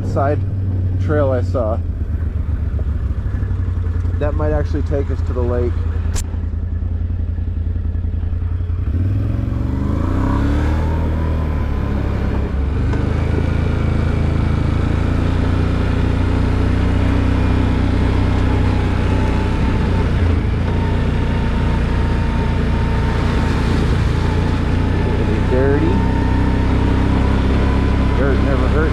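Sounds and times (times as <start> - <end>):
off-road vehicle engine revving: 0.0 - 28.9.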